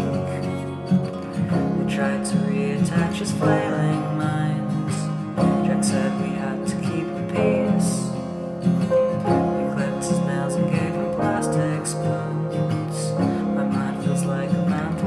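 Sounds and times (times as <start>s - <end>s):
instrumental music sustained chords: 0.0s - 15.0s.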